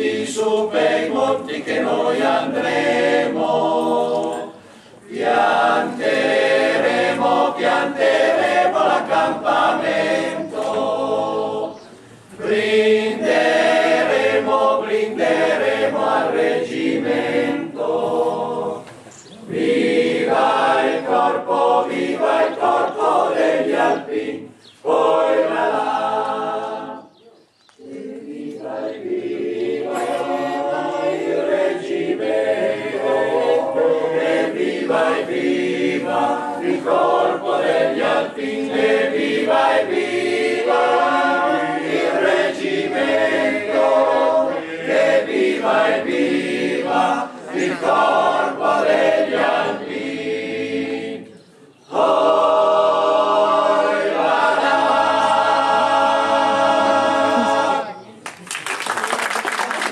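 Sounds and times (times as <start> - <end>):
choir singing unaccompanied: 0.0 - 27.2, 27.8 - 58.1.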